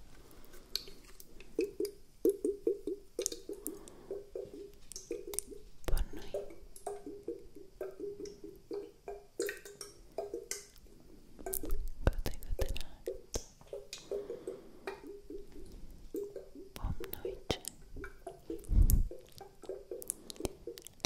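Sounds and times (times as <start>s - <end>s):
wet drip-like plops: 0.7s - 21.0s.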